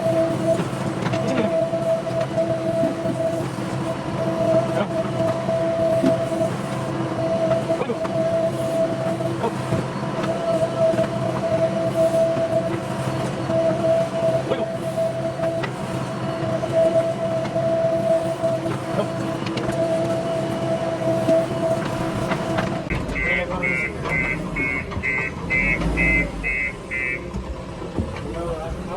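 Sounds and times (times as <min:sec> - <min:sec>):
diesel machinery engine droning: 0:00.0 - 0:28.9.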